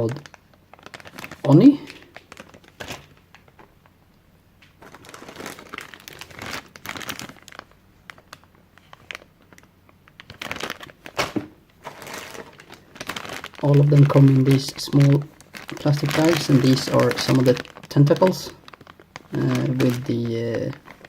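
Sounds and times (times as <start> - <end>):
plastic bags crinkling: 0.0 - 4.0, 4.6 - 21.0.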